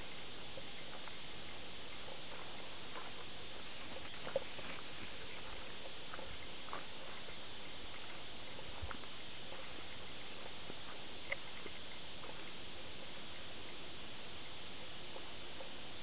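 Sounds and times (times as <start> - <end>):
faint clicks and ticks: 0.0 - 16.0.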